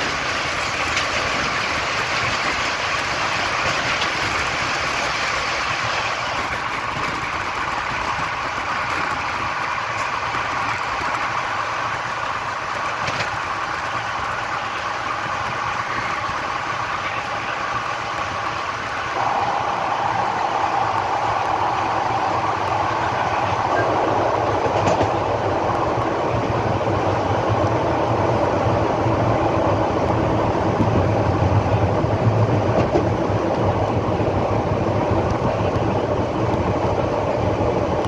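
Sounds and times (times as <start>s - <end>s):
passing goods train: 0.0s - 38.0s
train wheel rumble: 0.0s - 38.0s.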